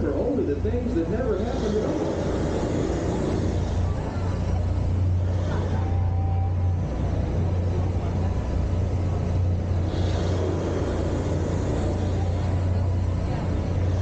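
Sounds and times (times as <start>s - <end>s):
boat machinery humming: 0.0s - 14.0s.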